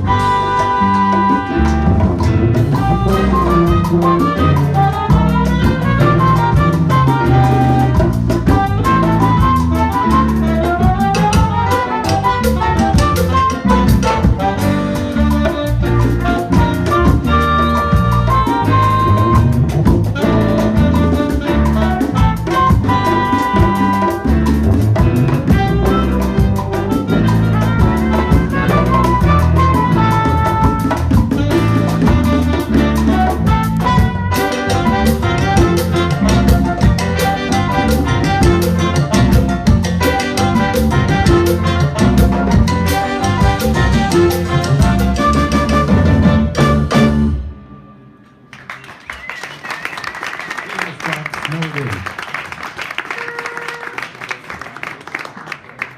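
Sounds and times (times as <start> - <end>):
brass and saxophone: 0.0 - 48.1, 53.0 - 54.6
drum kit: 0.0 - 49.4
piano: 0.0 - 50.5
bass: 0.0 - 52.2
horn section: 0.0 - 54.8
congas: 0.0 - 55.9
latin percussion rhythm: 0.0 - 55.9.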